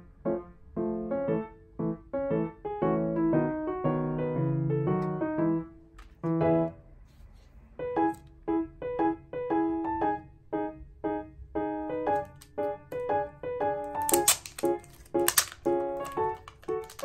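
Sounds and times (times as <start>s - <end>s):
light piano tune: 0.0s - 7.0s, 7.6s - 17.0s.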